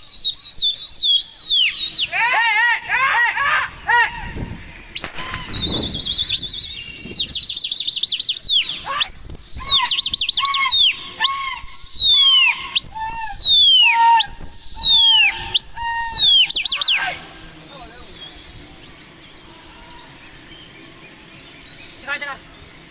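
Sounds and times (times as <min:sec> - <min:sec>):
loud swooping whistled calls: 0:00.0 - 0:22.9.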